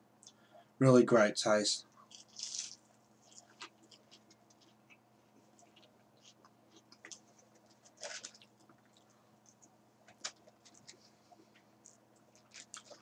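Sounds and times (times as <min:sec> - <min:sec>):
low steady hum: 0:00.0 - 0:13.0
closed-mouth chewing: 0:01.9 - 0:13.0.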